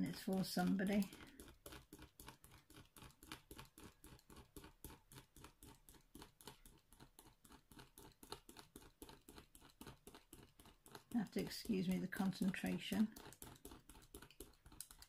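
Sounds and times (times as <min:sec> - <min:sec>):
craft knife scratching canvas: 0:00.0 - 0:15.0.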